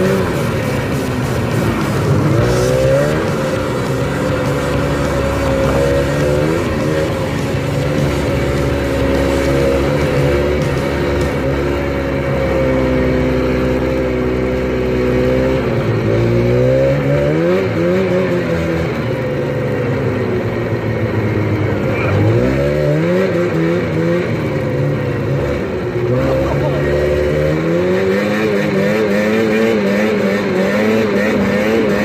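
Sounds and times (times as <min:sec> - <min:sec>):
snowmobile engine revving: 0:00.0 - 0:32.0.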